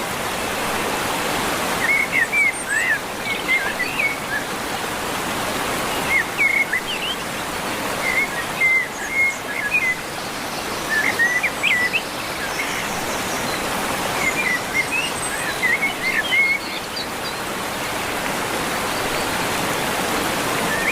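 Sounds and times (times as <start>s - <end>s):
running water: 0.0s - 20.9s.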